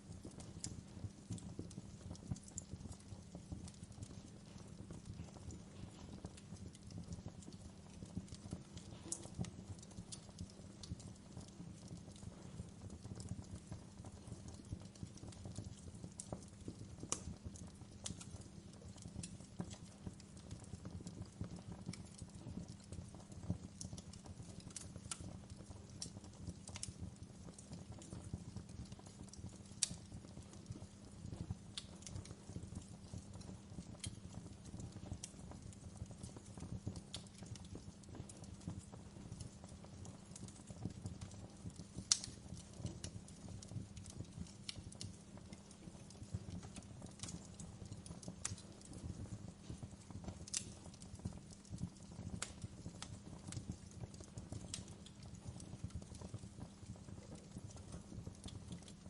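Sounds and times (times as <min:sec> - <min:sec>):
loud fire snaps: 0:00.0 - 0:59.0
wood fire crackling: 0:00.0 - 0:59.0.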